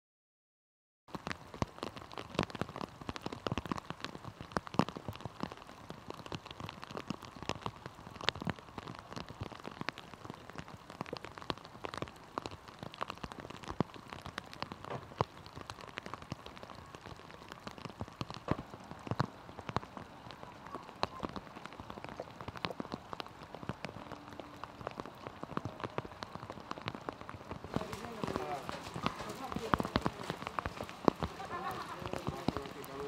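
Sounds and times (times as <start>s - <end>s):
raindrops ticking close by: 1.1s - 33.0s
steady rain: 1.1s - 33.0s.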